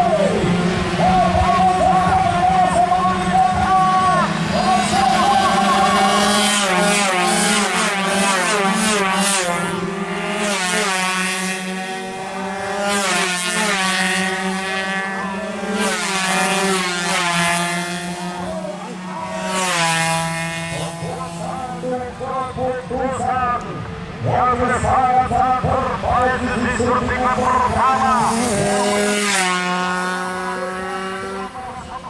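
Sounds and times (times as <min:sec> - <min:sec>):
racing motorcycles revving: 0:00.0 - 0:32.0.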